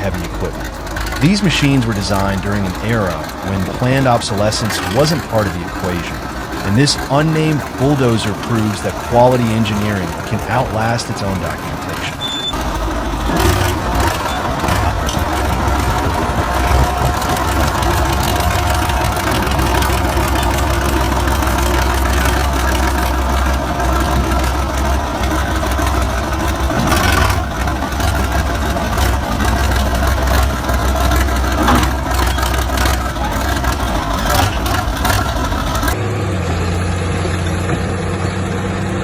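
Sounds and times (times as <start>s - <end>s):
bulldozer diesel engine running: 0.0s - 39.0s
metallic clanks: 0.0s - 39.0s.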